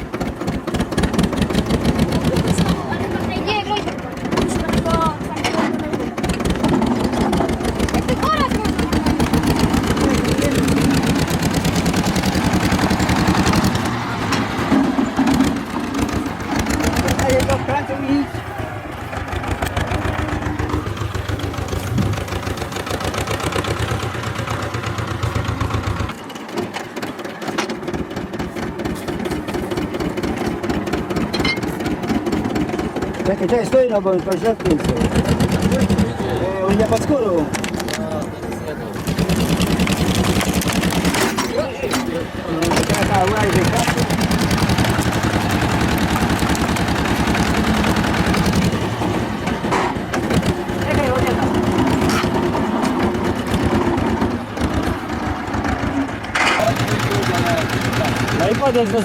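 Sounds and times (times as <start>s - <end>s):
engine running with pulsing beat: 0.0s - 59.0s.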